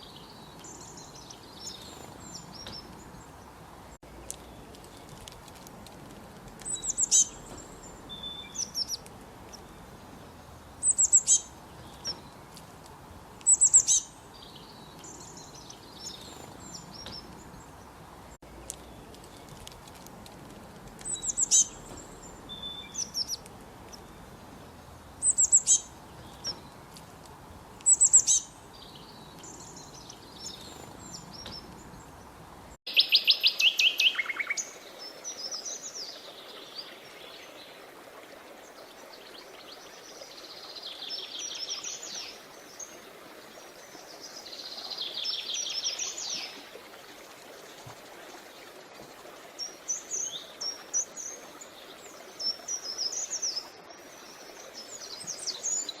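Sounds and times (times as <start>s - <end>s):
creek murmuring: 0.0s - 56.0s
songbirds chirping and trilling: 0.0s - 56.0s.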